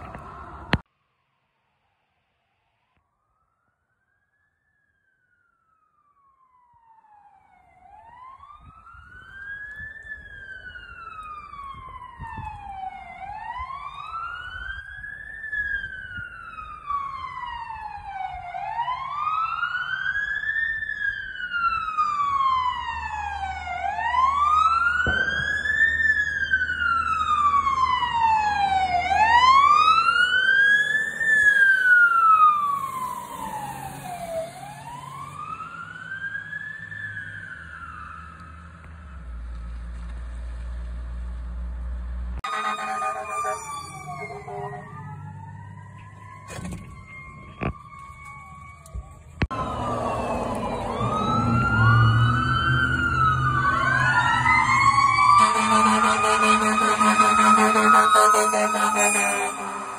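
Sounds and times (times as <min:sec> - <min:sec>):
fire engine siren wailing: 0:00.0 - 0:00.8, 0:03.2 - 0:40.4, 0:42.4 - 0:59.9.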